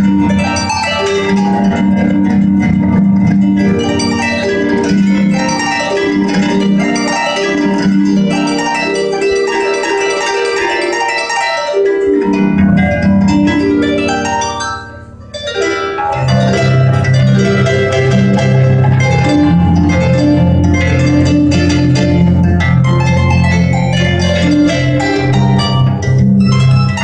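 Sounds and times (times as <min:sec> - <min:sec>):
harp plucked melody: 0:00.0 - 0:27.0.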